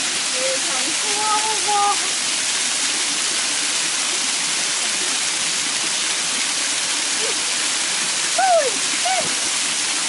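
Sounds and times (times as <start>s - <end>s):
waterfall rushing and splashing: 0.0s - 10.0s.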